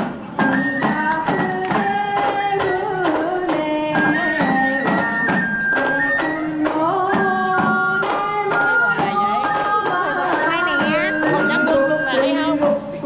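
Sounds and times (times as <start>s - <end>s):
folk tune with sliding melody: 0.0s - 13.0s
steady drum beat: 0.0s - 13.0s.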